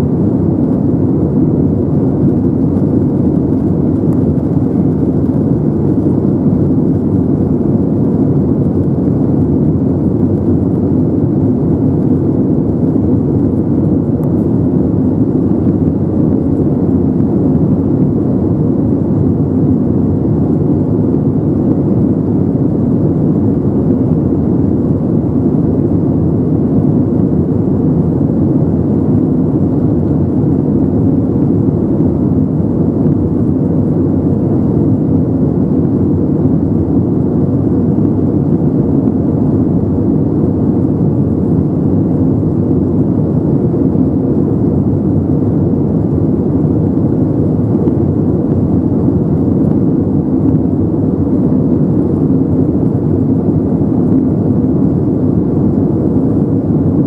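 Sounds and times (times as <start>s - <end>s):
aircraft cabin engine rush: 0.0s - 57.0s
faint steady hum: 0.0s - 57.0s.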